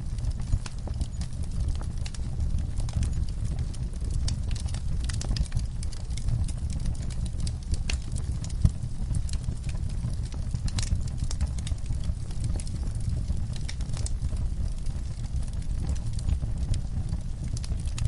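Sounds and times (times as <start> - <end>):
low rumble of flames: 0.0 - 18.0
wood fire crackling: 0.0 - 18.0
sharp pops of fire: 0.1 - 18.0.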